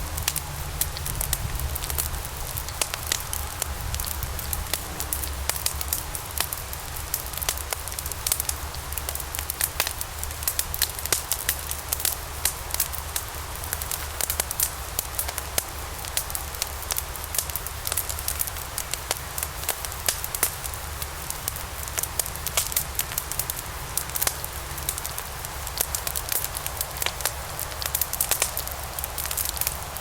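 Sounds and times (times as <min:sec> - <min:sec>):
flames rumbling and hissing: 0:00.0 - 0:30.0
logs crackling and popping: 0:00.0 - 0:30.0.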